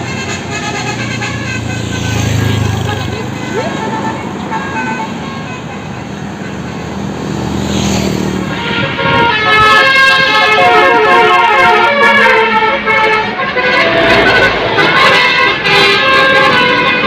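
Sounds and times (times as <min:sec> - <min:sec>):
multi-tone air horn melody: 0:00.0 - 0:06.8, 0:08.5 - 0:17.0
bus engine: 0:00.0 - 0:17.0
road noise: 0:00.0 - 0:17.0.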